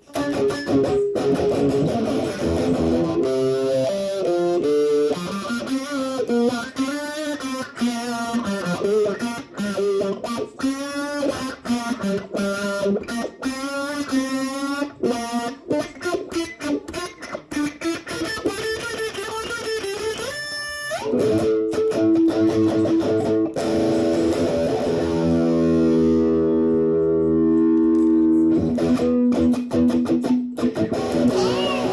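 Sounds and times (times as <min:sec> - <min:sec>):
electric guitar playing: 0:00.0 - 0:31.9.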